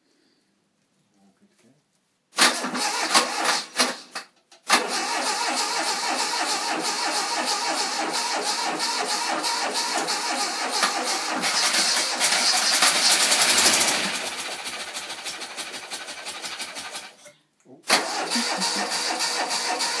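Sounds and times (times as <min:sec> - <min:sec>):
car engine starting and running: 0:02.4 - 0:04.0, 0:04.6 - 0:17.2, 0:17.9 - 0:20.0.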